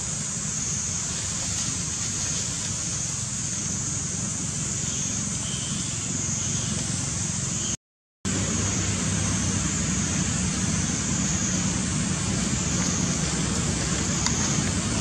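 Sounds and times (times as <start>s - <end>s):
constant high hiss: 0.0s - 15.0s.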